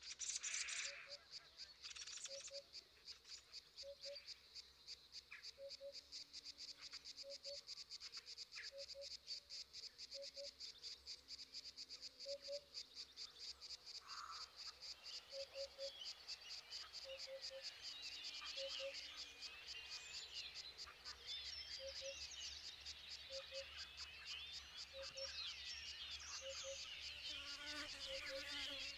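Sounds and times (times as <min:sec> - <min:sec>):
insects chirping: 0:00.2 - 0:28.9.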